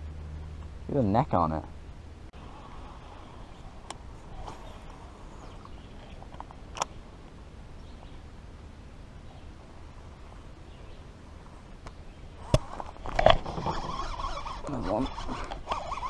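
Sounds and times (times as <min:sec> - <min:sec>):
low outdoor background noise: 0:00.0 - 0:16.0.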